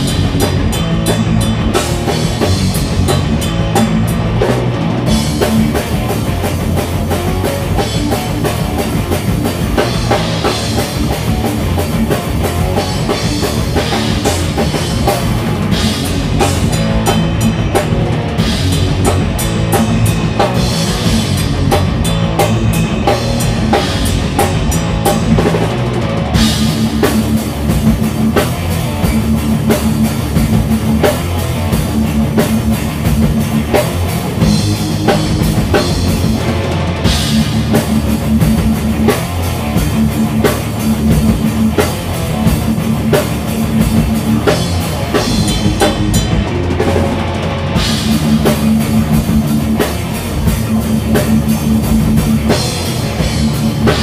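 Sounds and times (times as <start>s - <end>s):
bass guitar: 0.0s - 54.0s
distorted electric guitars: 0.0s - 54.0s
drum kit beat: 0.0s - 54.0s.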